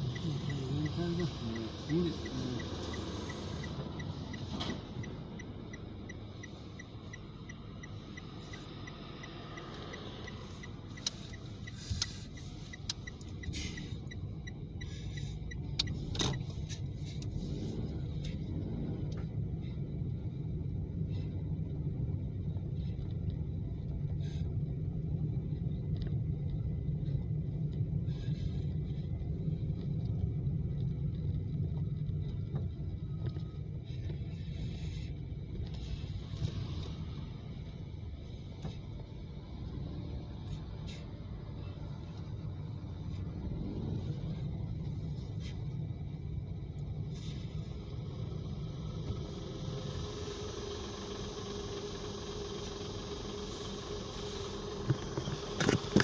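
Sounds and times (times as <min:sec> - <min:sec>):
car rumbling on the road: 0:00.0 - 0:56.0.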